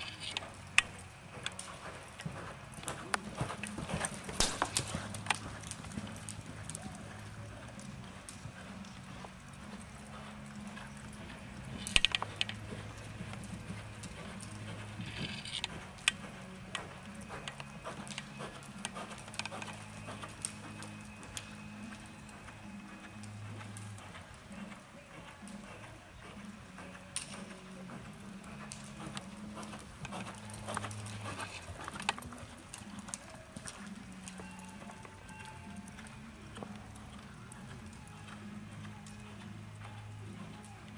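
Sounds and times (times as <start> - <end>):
horse hoofbeats on dirt: 0.0 - 40.9.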